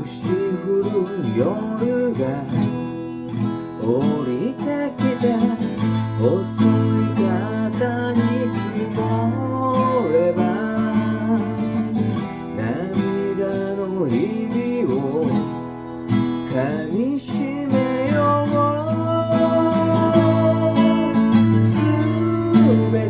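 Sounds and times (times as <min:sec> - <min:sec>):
person singing: 0:00.0 - 0:03.0, 0:03.8 - 0:23.0
acoustic guitar strumming: 0:00.0 - 0:23.0.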